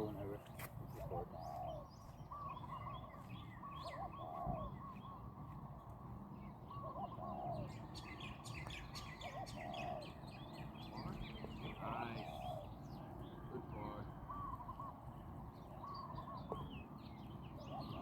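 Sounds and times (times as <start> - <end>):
small birds chirping: 0.0 - 18.0
dove cooing: 0.9 - 3.1, 3.7 - 4.9, 6.7 - 18.0.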